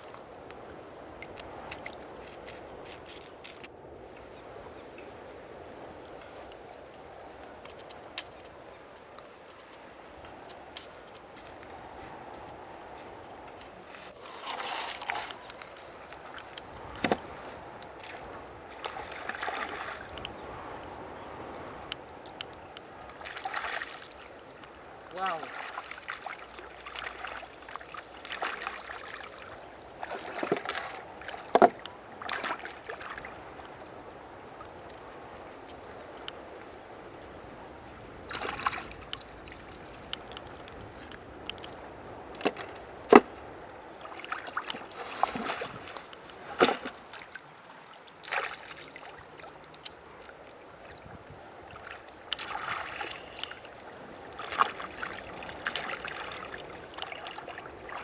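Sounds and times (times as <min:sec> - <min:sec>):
running water: 0:00.0 - 0:58.0
water sloshing and splashing: 0:00.0 - 0:58.0.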